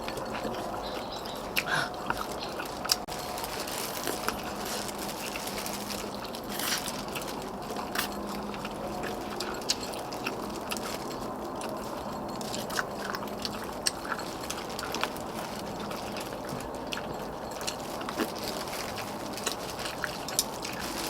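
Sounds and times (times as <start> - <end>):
people chewing: 0.0 - 21.0
steady background noise: 0.0 - 21.0
utensils clicking on bowls: 0.0 - 21.0.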